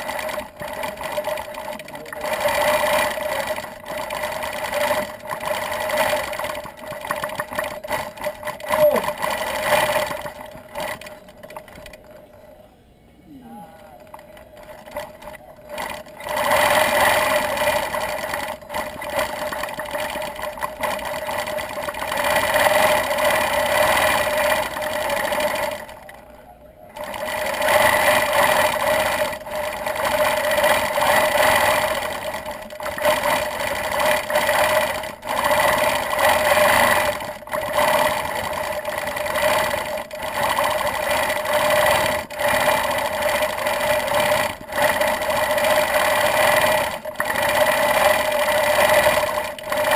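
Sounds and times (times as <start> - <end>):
quilting machine humming: 0.0 - 49.9.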